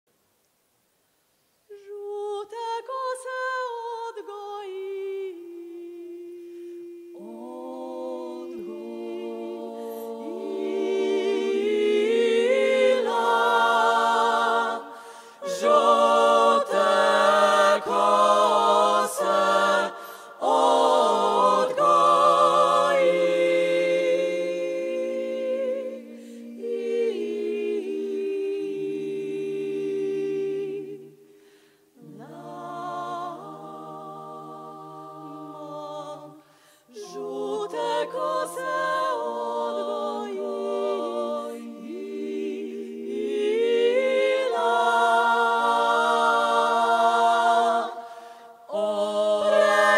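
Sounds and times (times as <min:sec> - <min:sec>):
women singing a cappella harmony: 0:01.7 - 0:49.9.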